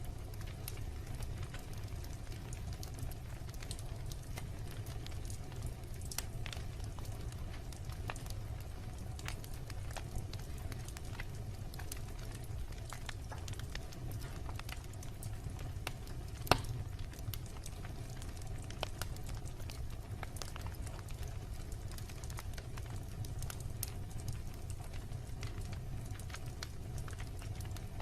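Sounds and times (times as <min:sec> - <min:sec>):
bonfire crackling and popping: 0:00.0 - 0:28.0
low rumble of fire: 0:00.0 - 0:28.0.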